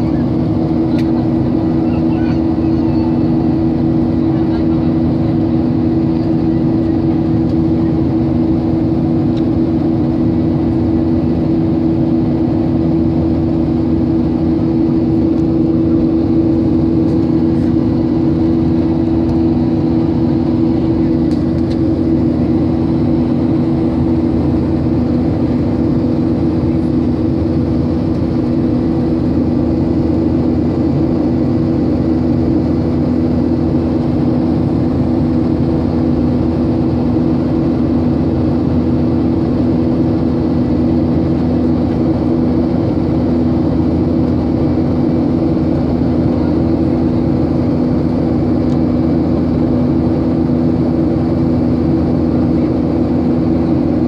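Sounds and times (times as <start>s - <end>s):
airliner engine drone: 0.0s - 54.0s
low steady hum tones: 0.0s - 54.0s.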